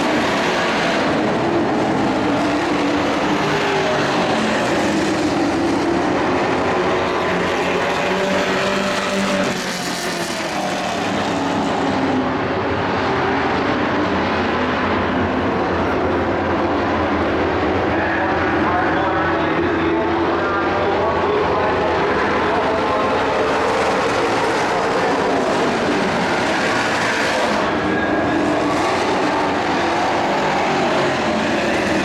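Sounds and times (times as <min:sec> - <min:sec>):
race truck engines: 0:00.0 - 0:32.0.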